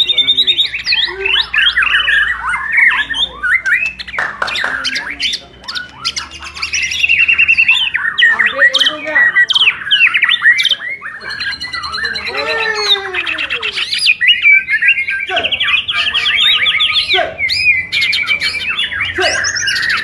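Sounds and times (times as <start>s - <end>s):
songbirds singing trills and whistles: 0.0s - 20.0s.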